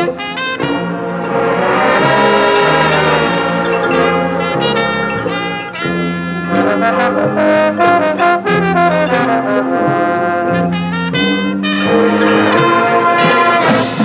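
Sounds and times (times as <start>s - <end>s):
marching band brass: 0.0s - 14.0s
marching band drums: 0.0s - 14.0s.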